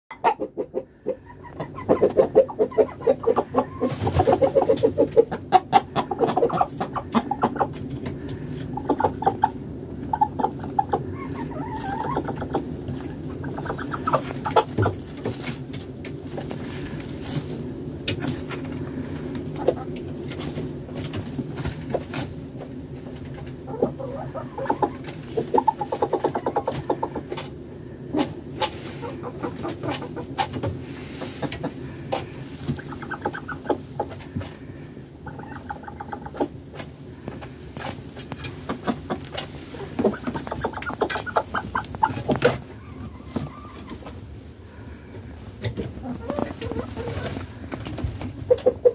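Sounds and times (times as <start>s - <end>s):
hens clucking: 0.1s - 48.9s.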